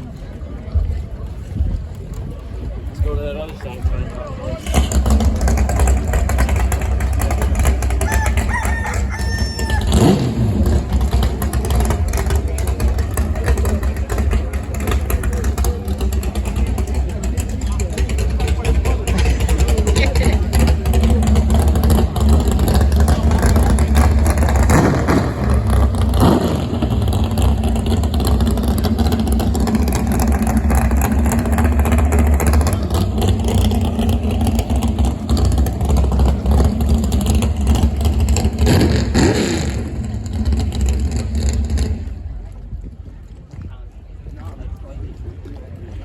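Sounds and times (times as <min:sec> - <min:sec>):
boat engine rumbling: 0:00.0 - 0:46.0.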